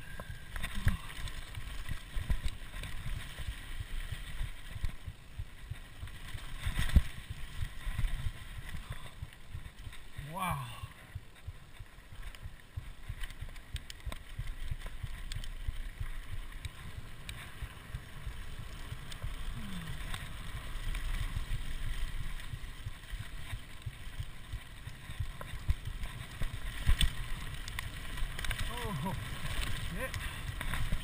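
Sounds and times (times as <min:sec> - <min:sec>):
bike rattling: 0:00.0 - 0:31.0
tyres rolling on dirt: 0:00.0 - 0:31.0.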